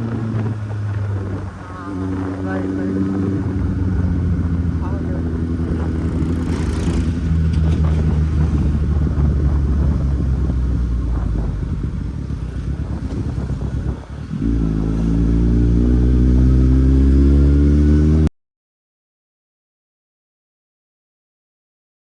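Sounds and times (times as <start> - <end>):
motorcycle engine accelerating: 0.0 - 18.3.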